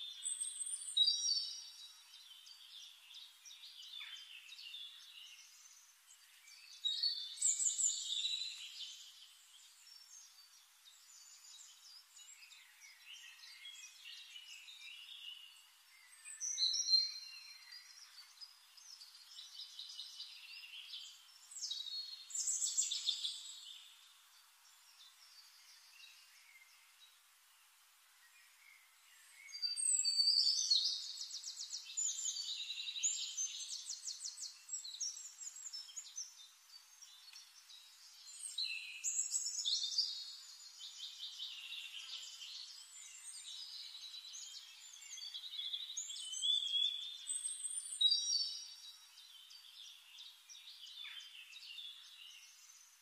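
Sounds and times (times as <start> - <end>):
forest birds singing: 0.0 - 53.0.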